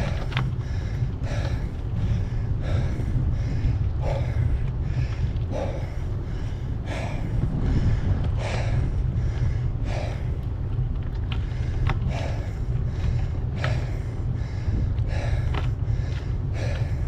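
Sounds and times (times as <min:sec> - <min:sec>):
low rumble: 0:00.0 - 0:17.0
person breathing hard: 0:00.0 - 0:17.0.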